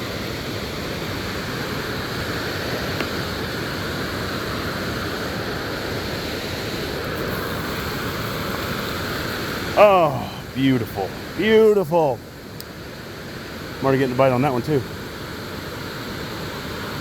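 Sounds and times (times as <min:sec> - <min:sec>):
water rushing over spillway: 0:00.0 - 0:17.0.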